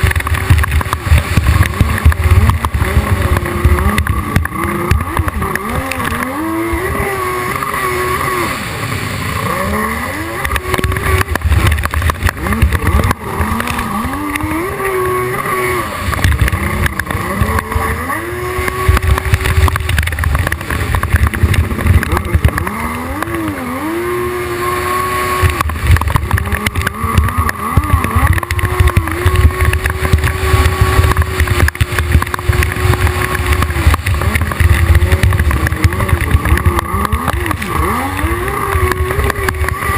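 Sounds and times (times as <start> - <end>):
jet ski engine revving: 0.0 - 39.9.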